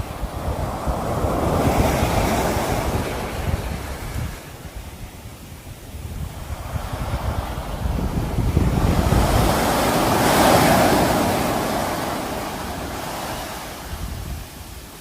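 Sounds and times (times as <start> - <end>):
sea waves crashing on shore: 0.0 - 15.0.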